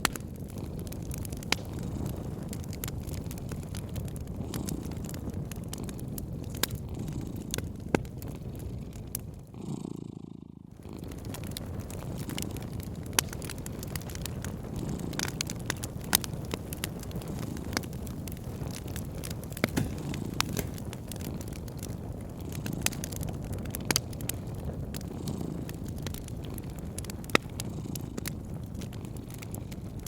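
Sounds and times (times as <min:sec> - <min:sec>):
fire pops: 0:00.0 - 0:09.7, 0:10.7 - 0:30.0
low fire rumble: 0:00.0 - 0:30.0
wood fire crackling: 0:00.0 - 0:30.0.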